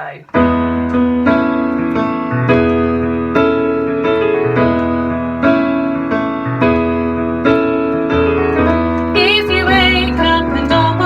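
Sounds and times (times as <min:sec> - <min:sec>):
piano chords over bass line: 0:00.0 - 0:11.0.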